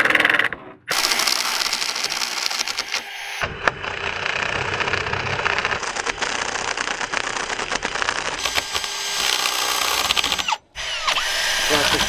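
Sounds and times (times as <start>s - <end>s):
cordless drill boring into foam: 0.9s - 12.0s.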